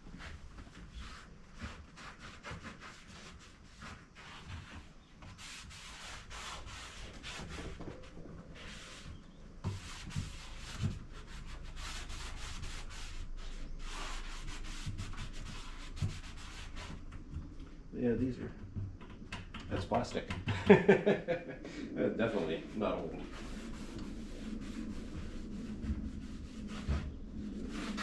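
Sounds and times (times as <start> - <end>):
rubbing on wooden furniture: 0.1 - 21.1, 22.2 - 28.0.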